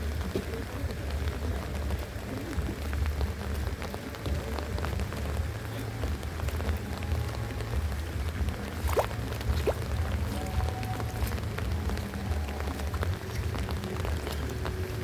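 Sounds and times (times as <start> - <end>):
rain drops ticking on hard surfaces: 0.0 - 15.0
low rumble: 1.0 - 15.0.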